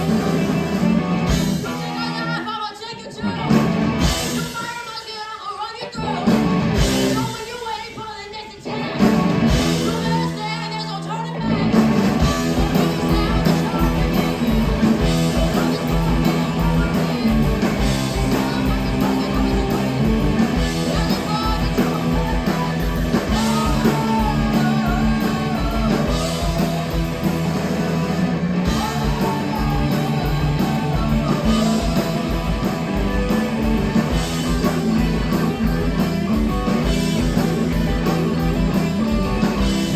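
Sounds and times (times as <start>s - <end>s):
drums fast beat: 0.0s - 2.8s, 3.4s - 5.3s, 6.1s - 8.3s, 8.9s - 10.7s, 11.5s - 39.9s
live rock band playing: 0.0s - 39.9s.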